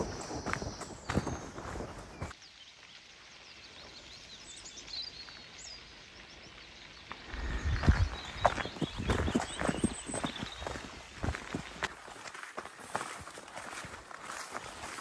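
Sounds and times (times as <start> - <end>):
footsteps crunching on trail: 0.0 - 3.0, 3.6 - 15.0
faint forest hiss: 0.0 - 15.0
small birds chirping: 0.0 - 15.0.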